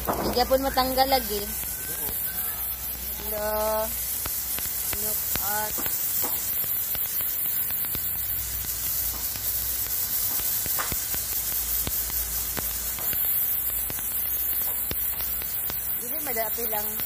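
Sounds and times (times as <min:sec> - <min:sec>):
pressure washer jet hissing: 0:00.0 - 0:17.0.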